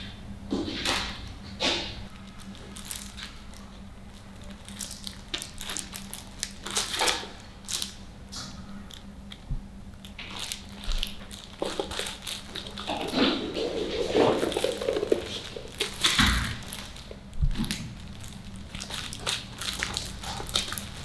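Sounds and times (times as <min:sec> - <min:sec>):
faint steady hum: 0:00.0 - 0:21.0
sticker sheet crinkling: 0:01.8 - 0:08.0, 0:10.0 - 0:21.0.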